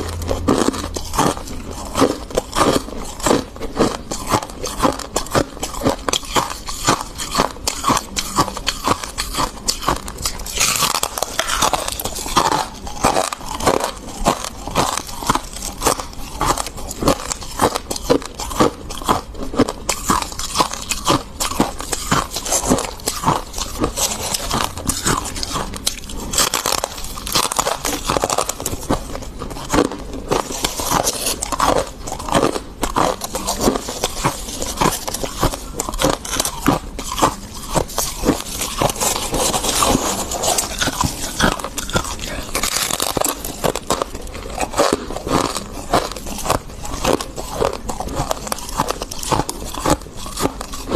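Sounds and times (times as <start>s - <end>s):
frost being crunched by chewing: 0.0s - 50.9s.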